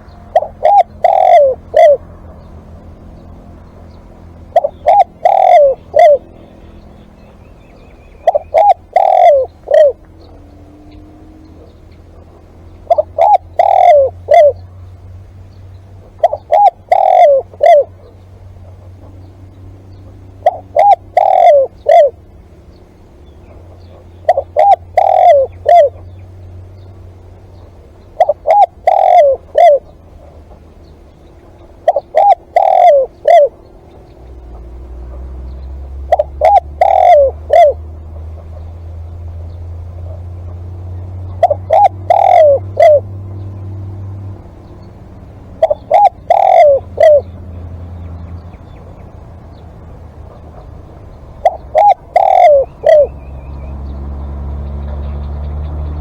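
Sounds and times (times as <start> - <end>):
dove cooing: 0.0 - 15.2, 15.9 - 56.0
low steady hum: 0.0 - 56.0.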